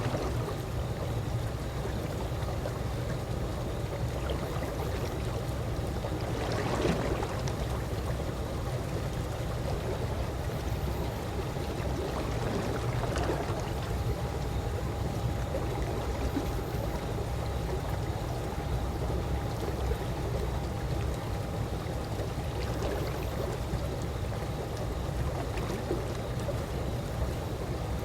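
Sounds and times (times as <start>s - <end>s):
pool water lapping: 0.0s - 28.0s.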